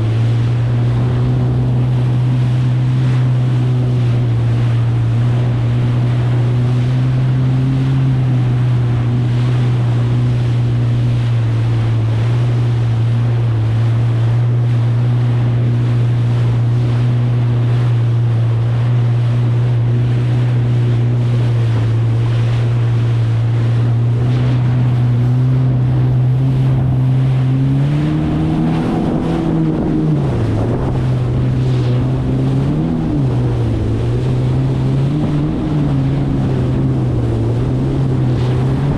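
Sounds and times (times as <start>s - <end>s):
jet ski engine running: 0.0s - 38.9s
water and wind rushing: 0.0s - 38.9s.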